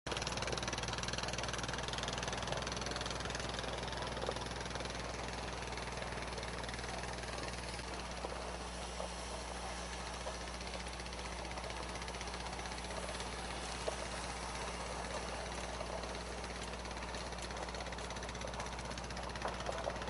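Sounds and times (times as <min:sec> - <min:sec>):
engine running at low speed: 0:00.1 - 0:20.0.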